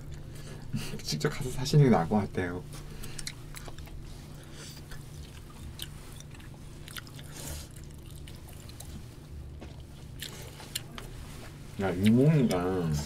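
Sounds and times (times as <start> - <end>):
people chewing: 0.0 - 1.2, 2.7 - 13.0.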